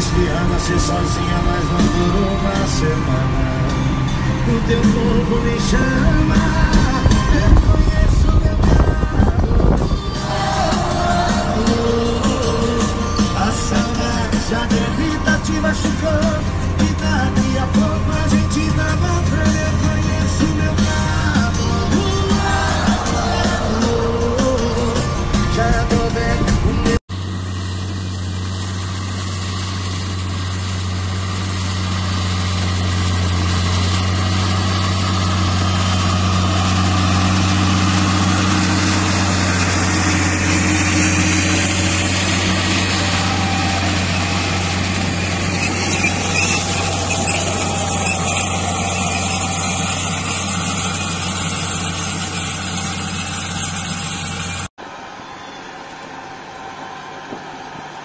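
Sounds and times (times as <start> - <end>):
broad rushing noise: 0.0 - 27.0, 32.7 - 58.0
tractor diesel engine running: 0.0 - 58.0.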